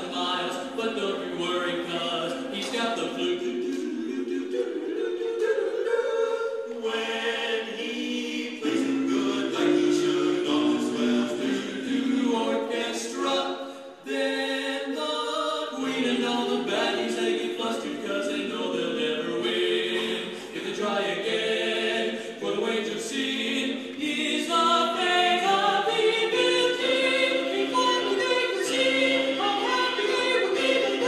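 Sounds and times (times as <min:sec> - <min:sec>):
men singing in close harmony: 0:00.0 - 0:31.0.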